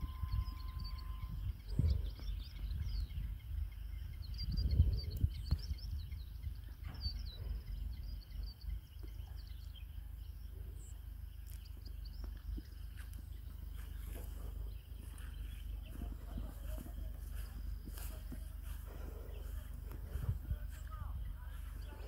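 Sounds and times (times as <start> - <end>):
small birds chirping: 0.0 - 22.0
wind rumble on microphone: 0.0 - 22.0.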